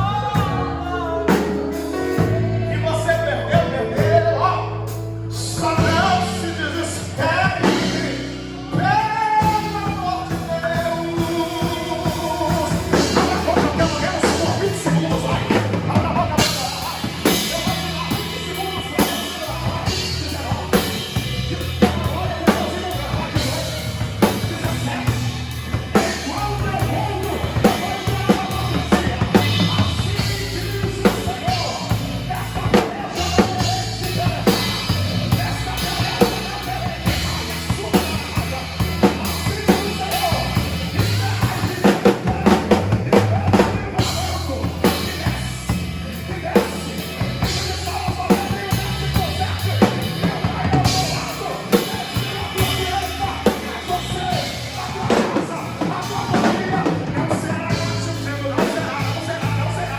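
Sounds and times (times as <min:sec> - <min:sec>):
drum kit: 0:00.0 - 0:59.9
gospel band music: 0:00.0 - 0:59.9
person singing: 0:00.0 - 0:59.9.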